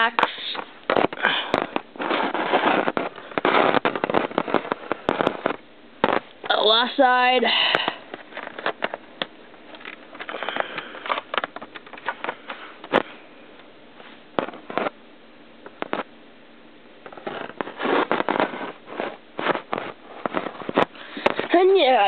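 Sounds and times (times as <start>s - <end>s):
rustling: 0.0s - 13.3s, 13.9s - 15.0s, 17.0s - 22.0s.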